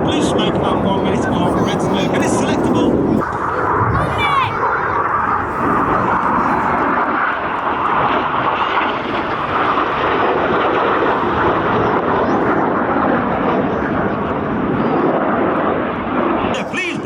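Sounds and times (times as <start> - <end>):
jets flying overhead: 0.0 - 17.0.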